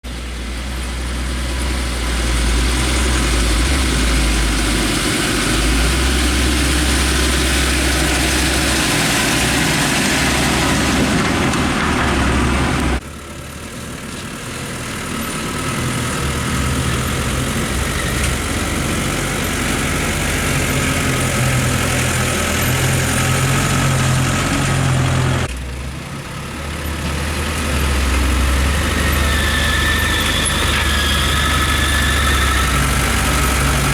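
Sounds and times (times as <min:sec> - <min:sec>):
diesel engines running: 0:00.0 - 0:33.9.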